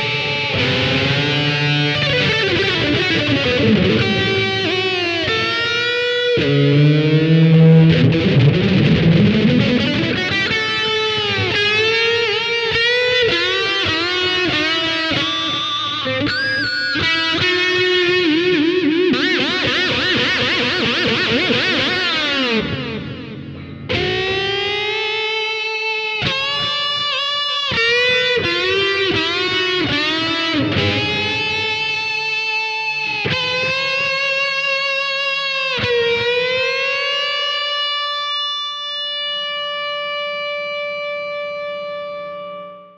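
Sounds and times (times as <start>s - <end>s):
distorted electric guitar lead: 0.0s - 42.9s.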